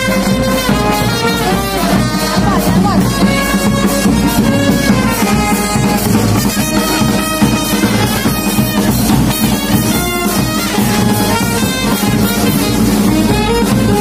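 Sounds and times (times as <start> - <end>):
brass band with drums: 0.0 - 14.0.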